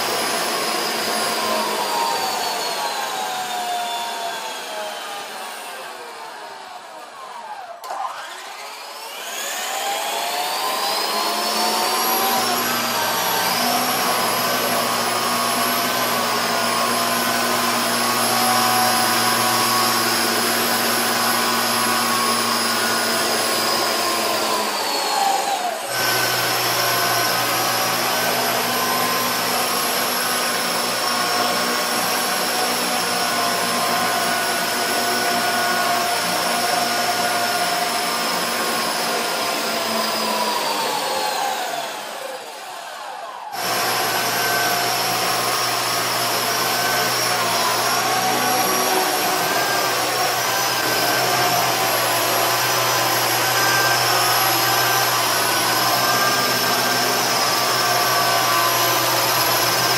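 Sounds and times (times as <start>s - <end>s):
toy helicopter rotors whining: 0.0s - 59.9s.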